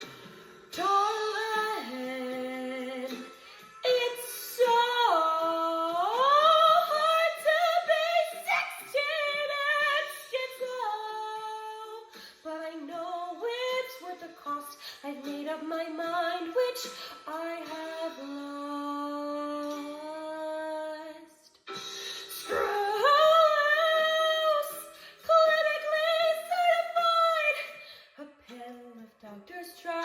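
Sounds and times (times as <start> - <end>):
woman singing slow melody: 0.1 - 30.0.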